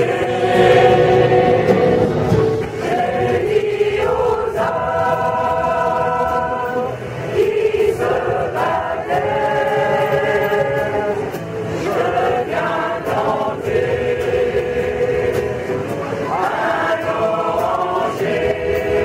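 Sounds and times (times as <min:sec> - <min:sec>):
acoustic guitar: 0:00.0 - 0:19.0
mixed choir singing: 0:00.0 - 0:19.0.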